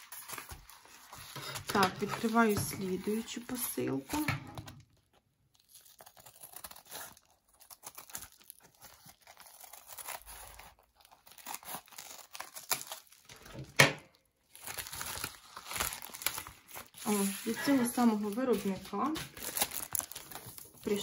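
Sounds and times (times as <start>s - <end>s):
packaging torn and crinkled: 0.0s - 21.0s.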